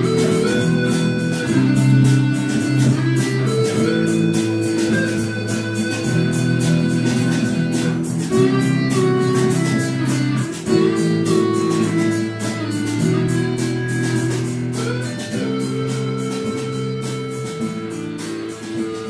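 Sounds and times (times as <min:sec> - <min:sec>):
guitar music over a beat: 0:00.0 - 0:19.0.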